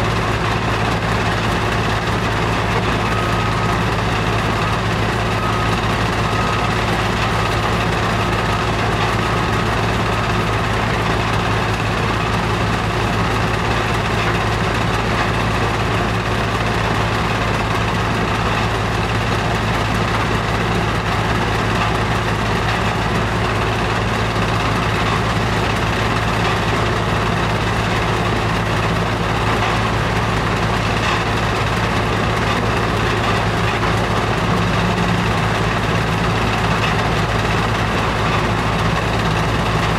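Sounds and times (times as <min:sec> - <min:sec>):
diesel engine low hum: 0:00.0 - 0:39.9.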